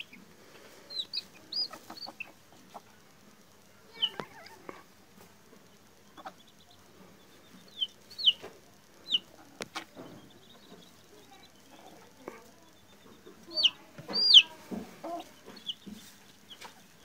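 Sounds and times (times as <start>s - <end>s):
chick chirping: 0.0s - 17.0s
faint rapid peeps: 0.0s - 17.0s.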